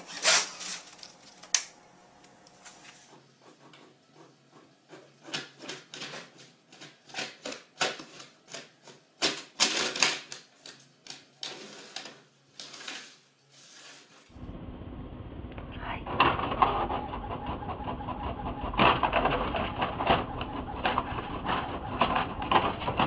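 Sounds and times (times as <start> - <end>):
printer whirring and clattering: 0.0 - 12.2, 16.1 - 23.0.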